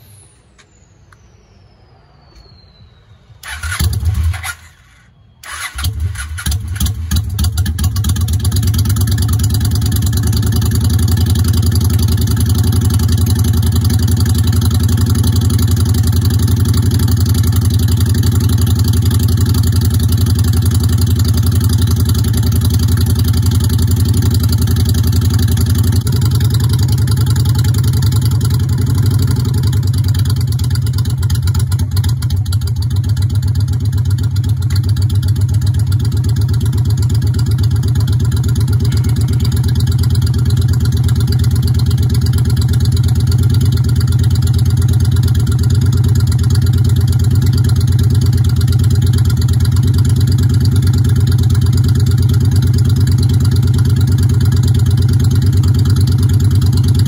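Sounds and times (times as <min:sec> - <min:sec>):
motorcycle engine starting and idling: 0:03.4 - 0:57.0.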